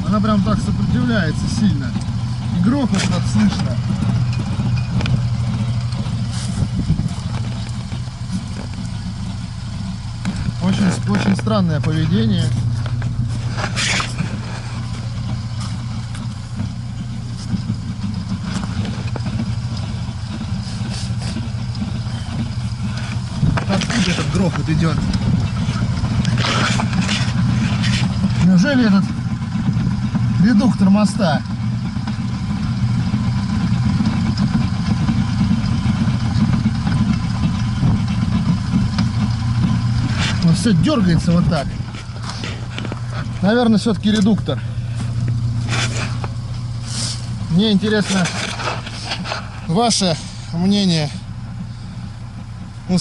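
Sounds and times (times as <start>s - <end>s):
car engine running: 0.0s - 53.0s
rear axle knocking: 0.0s - 53.0s.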